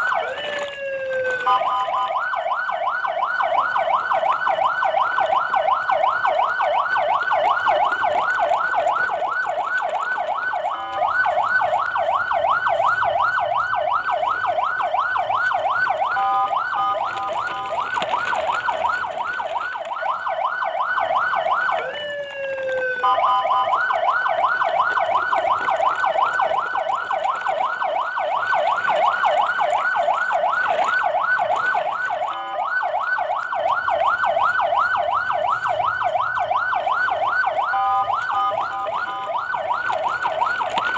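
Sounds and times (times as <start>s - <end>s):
electronic siren yelping: 0.0s - 19.0s, 19.7s - 40.9s.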